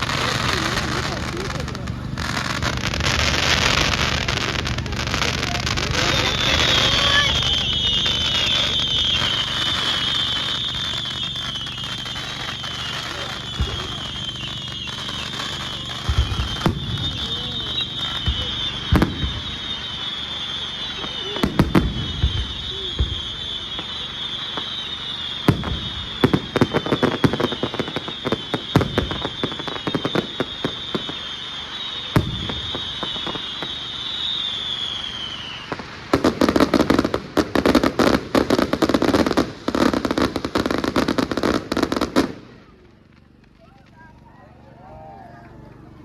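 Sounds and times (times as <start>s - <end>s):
fireworks bangs and booms: 0.0s - 44.3s.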